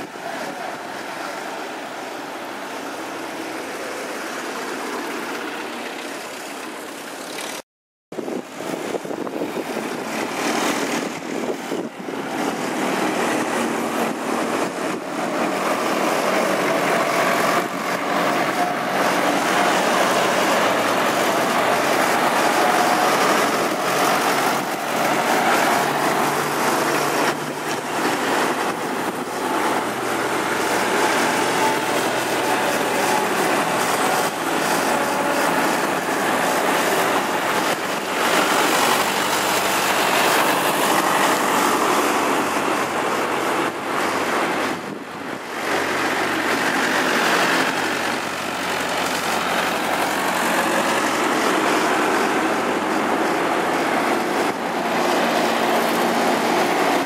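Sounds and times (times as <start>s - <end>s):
diesel tractors driving past: 0.0s - 7.6s, 8.2s - 57.0s.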